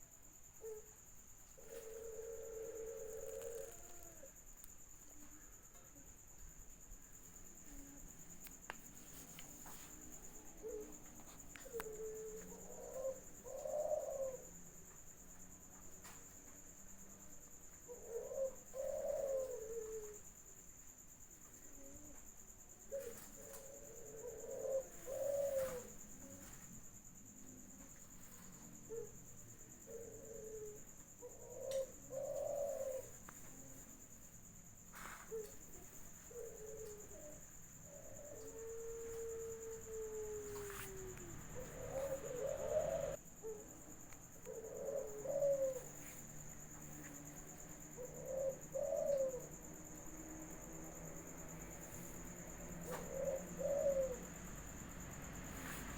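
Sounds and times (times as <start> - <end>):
dove cooing: 0.0 - 5.8, 7.1 - 16.1, 17.7 - 20.4, 22.8 - 26.6, 27.4 - 55.9.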